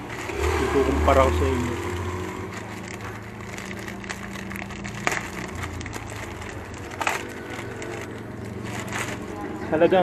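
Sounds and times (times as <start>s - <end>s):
sharp crackle: 0.0s - 9.8s
plastic and foam crinkling: 0.0s - 10.0s.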